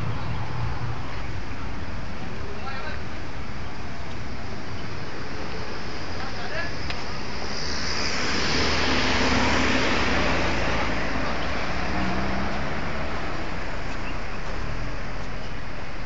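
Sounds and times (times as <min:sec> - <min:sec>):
vehicle engines: 0:00.0 - 0:16.0.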